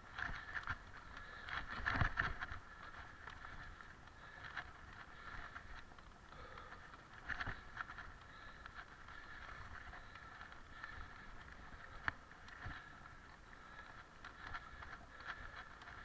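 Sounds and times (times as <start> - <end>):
bike rattling over roots and stones: 0.0 - 16.0
bike tyres on dirt trail: 0.0 - 16.0.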